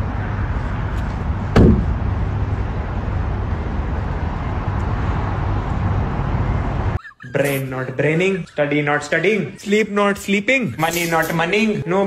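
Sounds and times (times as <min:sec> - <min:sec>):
street noise with low rumble: 0:00.0 - 0:12.0.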